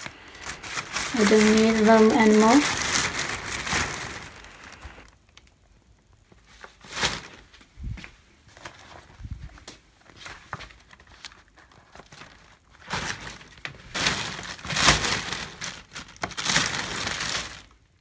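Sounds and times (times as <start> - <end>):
plastic bag and paper rustling: 0.0 - 18.0.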